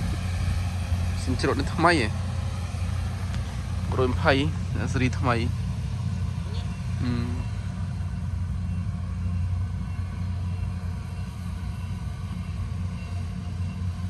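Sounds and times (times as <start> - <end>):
steady low rumble: 0.0 - 13.6.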